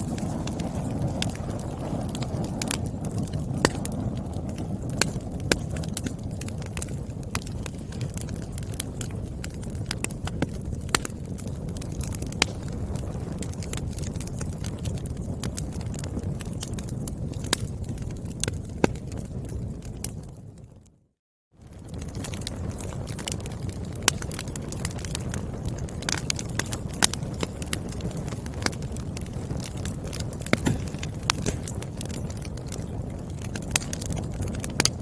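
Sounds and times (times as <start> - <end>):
firewood crackling and popping: 0.0 - 35.0
low rumble of flames: 0.0 - 35.0.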